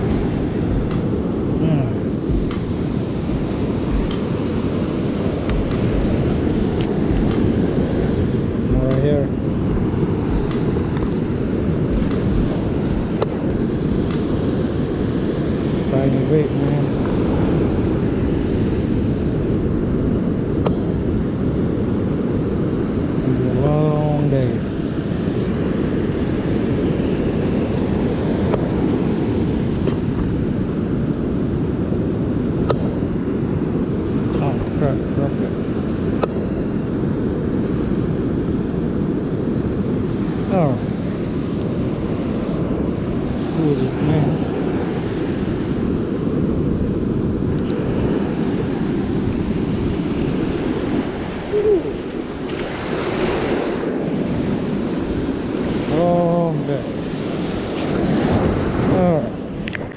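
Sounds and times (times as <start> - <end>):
ocean surf breaking: 0.0 - 59.9
wind buffeting microphone: 0.0 - 59.9.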